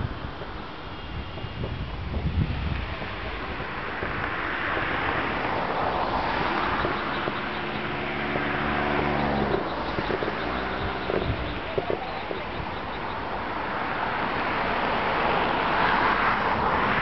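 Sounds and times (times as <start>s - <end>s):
low engine hum: 0.0s - 17.0s
wind on microphone: 0.0s - 17.0s.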